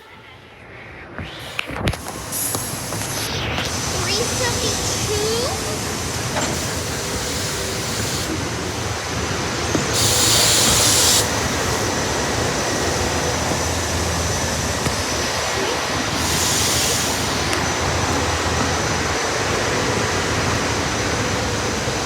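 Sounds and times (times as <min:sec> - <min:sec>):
hiss bursts: 0:01.2 - 0:22.0
train wheels rumbling on rail: 0:01.6 - 0:22.0.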